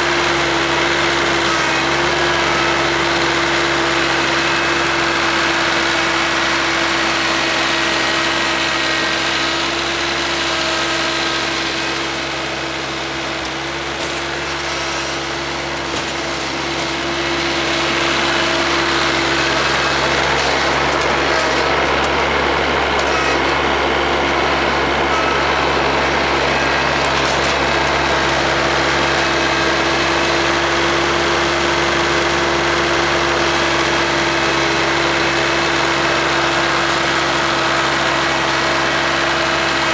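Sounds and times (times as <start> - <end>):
diesel tractor engine running: 0.0 - 39.9
snowblower whine: 0.0 - 39.9.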